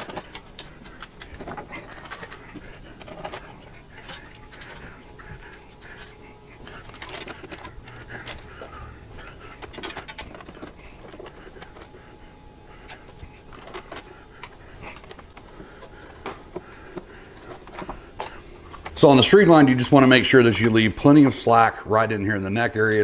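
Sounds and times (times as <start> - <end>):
wire rustling and clicking: 0.0 - 19.3.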